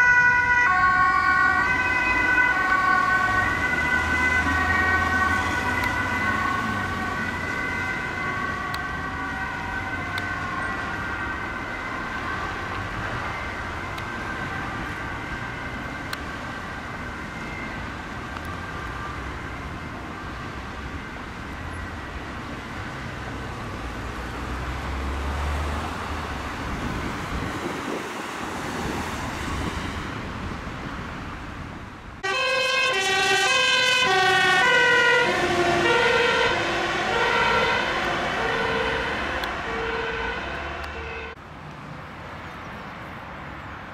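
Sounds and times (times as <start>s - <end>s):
ambulance siren: 0.0s - 30.0s, 32.2s - 41.4s
fire truck siren: 0.0s - 30.2s, 32.2s - 41.4s
road traffic passing: 0.0s - 43.9s.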